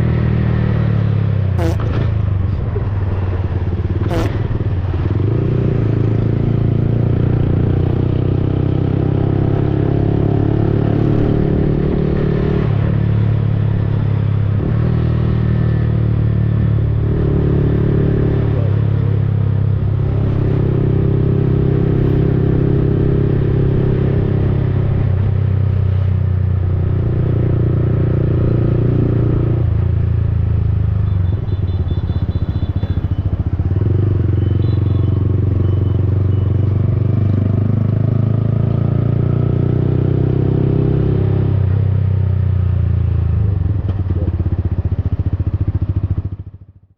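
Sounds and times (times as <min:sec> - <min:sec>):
motorcycle engine revving: 0:00.0 - 0:46.7.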